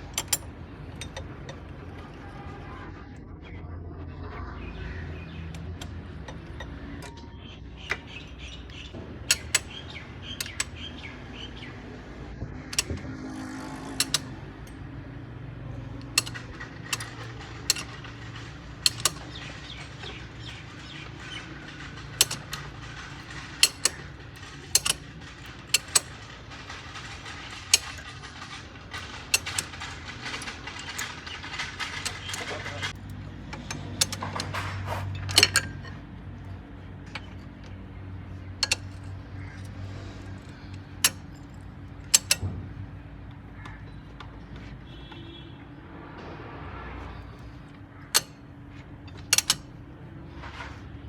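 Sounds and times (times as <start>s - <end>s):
hand tools clinking on metal: 0.0s - 2.2s, 5.4s - 11.8s, 12.6s - 42.5s, 47.3s - 51.0s.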